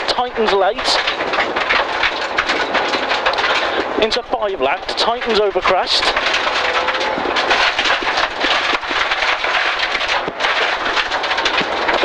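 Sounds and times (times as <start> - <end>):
stones rattling against underside: 0.0 - 12.0
tyre and road noise: 0.0 - 12.0.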